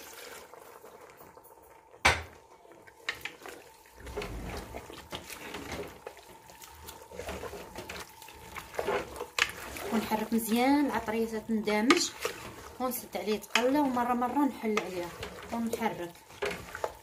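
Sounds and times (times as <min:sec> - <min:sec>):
hand mixing wet meat in pot: 0:00.0 - 0:01.4, 0:02.4 - 0:17.0.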